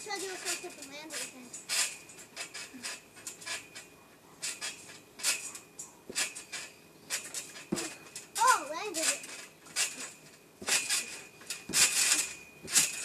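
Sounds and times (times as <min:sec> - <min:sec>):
trampoline springs creaking and squeaking: 0:00.0 - 0:13.0.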